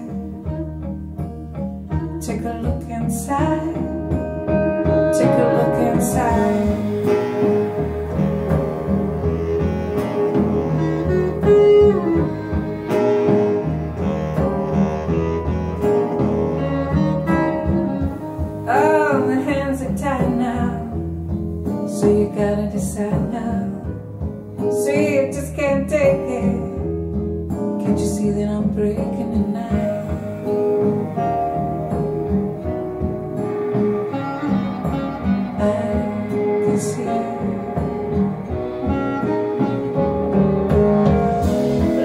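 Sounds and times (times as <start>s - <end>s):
instrumental guitar and strings music: 0.0s - 42.0s.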